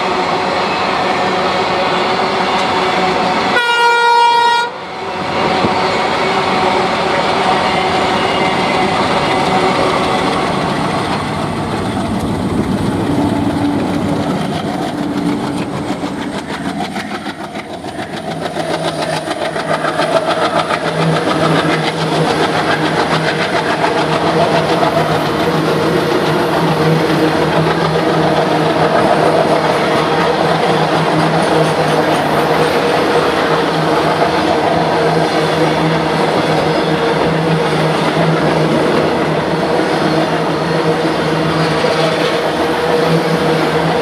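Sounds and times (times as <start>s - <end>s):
diesel locomotives under load: 0.0s - 44.0s
train wheels clattering over rail joints: 5.4s - 44.0s.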